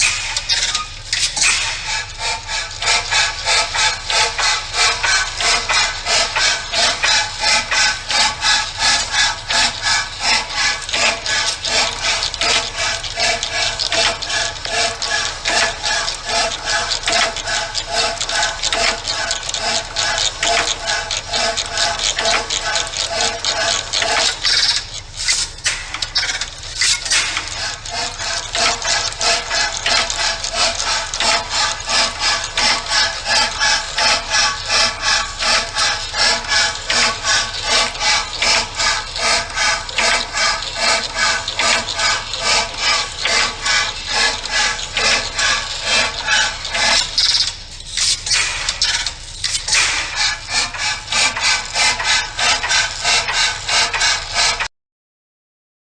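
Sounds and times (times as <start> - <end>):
hacksaw cutting metal: 0.0 - 54.7.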